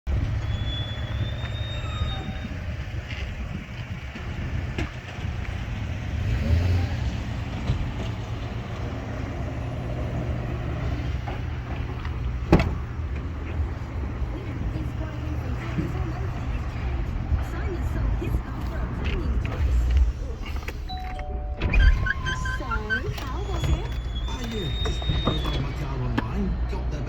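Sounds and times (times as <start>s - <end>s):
car engine running: 0.1s - 27.0s.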